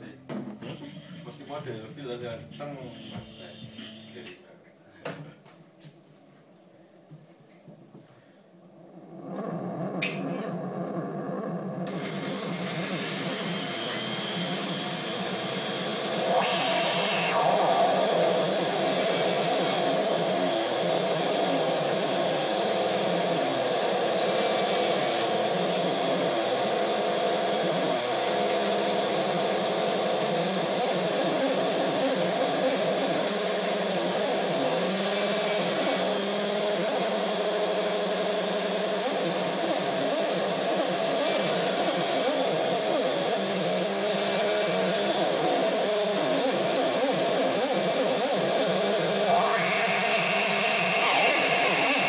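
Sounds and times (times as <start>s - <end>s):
noisy modular synthesizer drone: 9.1s - 52.0s.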